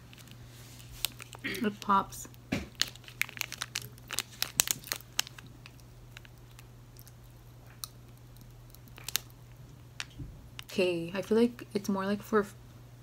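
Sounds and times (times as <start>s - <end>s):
popping candy crackling: 0.0s - 10.7s.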